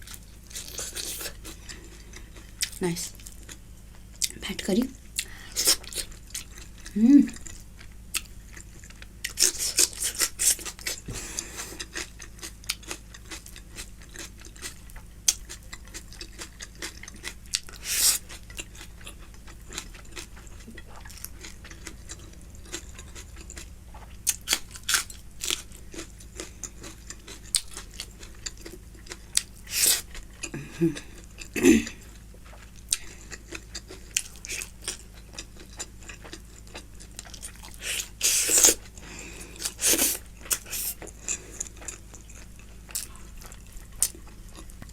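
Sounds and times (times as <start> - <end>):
chewing and mouth smacks: 0.0 - 4.4, 5.1 - 44.9.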